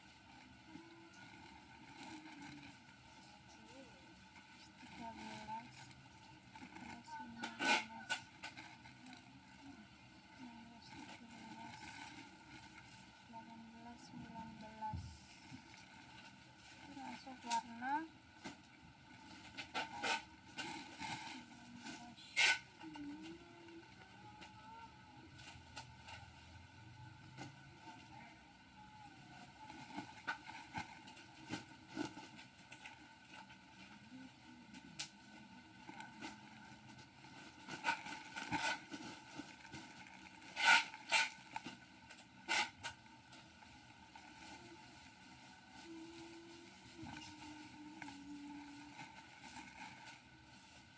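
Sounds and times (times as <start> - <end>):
items rustling and knocking: 0.2 - 28.3, 29.1 - 50.9.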